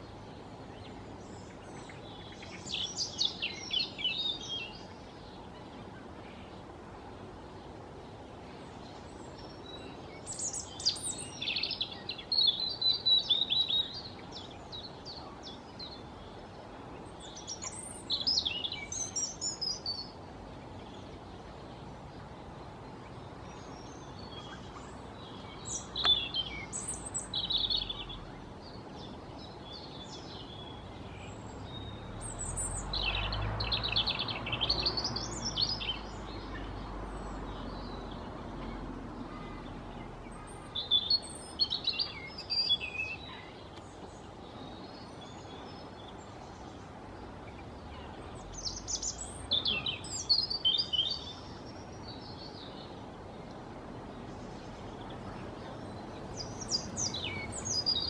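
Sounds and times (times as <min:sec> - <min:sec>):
robin singing: 0:00.0 - 0:58.0.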